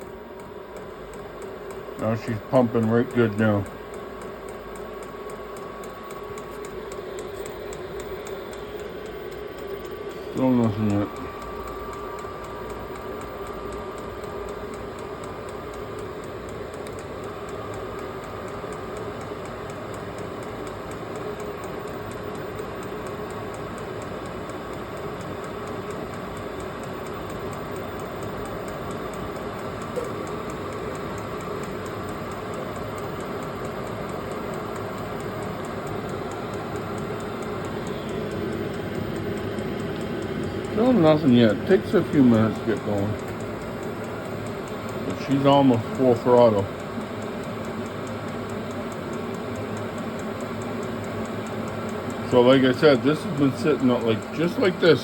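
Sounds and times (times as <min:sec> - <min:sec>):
heater fan whirring: 0:00.0 - 0:55.0
fuel pump ticking: 0:00.4 - 0:55.0.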